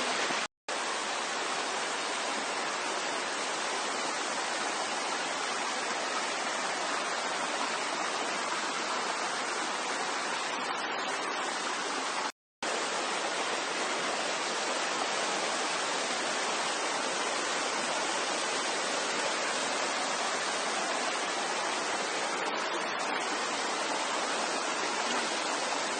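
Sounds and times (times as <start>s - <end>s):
waterfall rushing and splashing: 0.0s - 25.9s.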